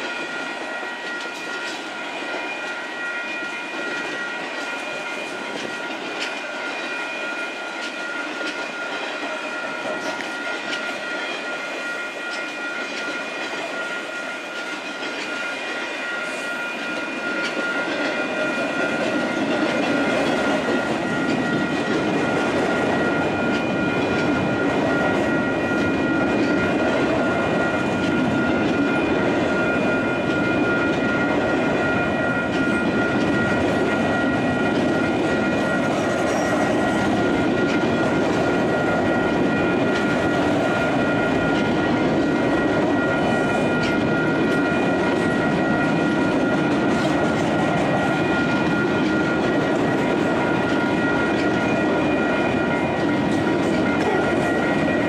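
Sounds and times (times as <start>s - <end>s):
freight cars rumbling on rails: 3.9s - 55.0s.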